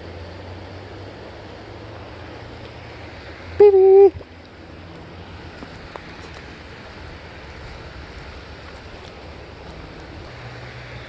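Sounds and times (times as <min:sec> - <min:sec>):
creek water rushing: 0:00.0 - 0:11.0
wind rumble on microphone: 0:00.0 - 0:11.0.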